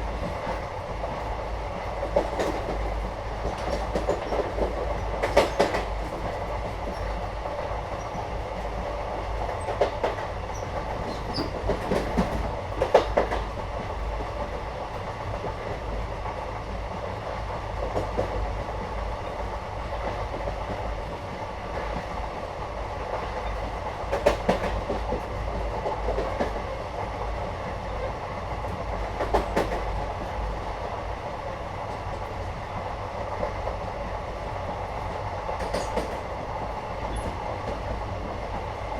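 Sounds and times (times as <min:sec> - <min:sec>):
train carriage rumble: 0:00.0 - 0:38.9.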